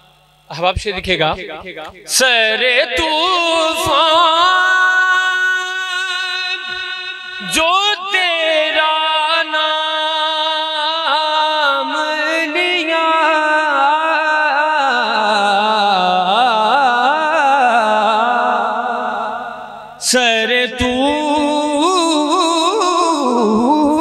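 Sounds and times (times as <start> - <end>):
man singing a long note: 1.7 - 24.0.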